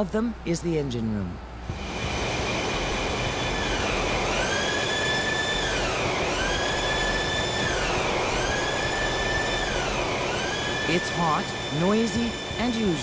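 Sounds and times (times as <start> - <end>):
engine-room machinery whine: 1.5 - 13.0.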